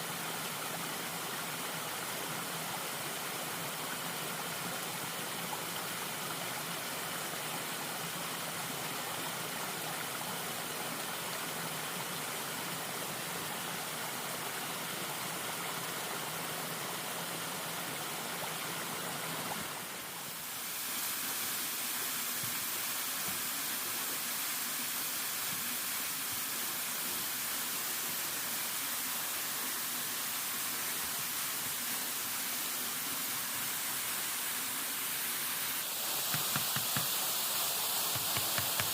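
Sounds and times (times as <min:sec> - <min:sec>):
rushing running water: 0:00.0 - 0:38.9.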